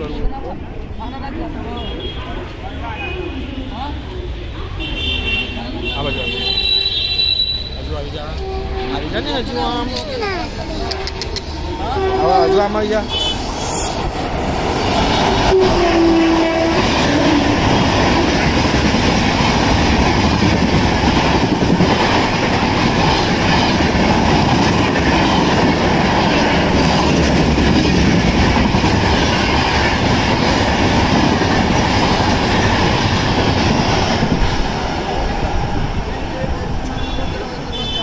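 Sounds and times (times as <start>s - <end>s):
passenger train rushing past: 0.0s - 38.0s.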